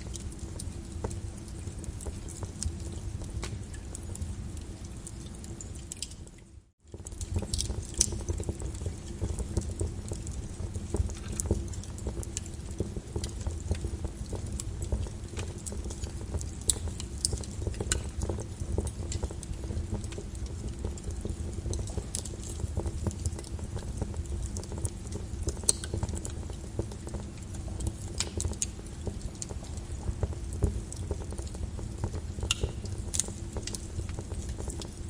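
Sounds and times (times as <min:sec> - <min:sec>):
lava crackling and popping: 0:00.0 - 0:35.0.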